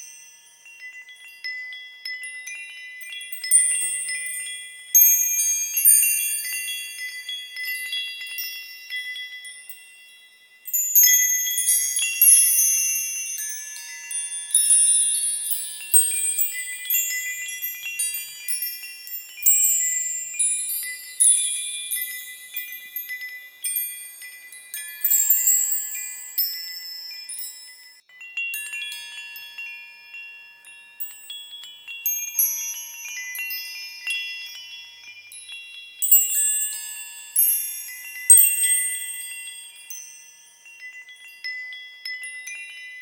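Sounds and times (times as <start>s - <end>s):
metal wind chimes tinkling: 0.0s - 43.0s.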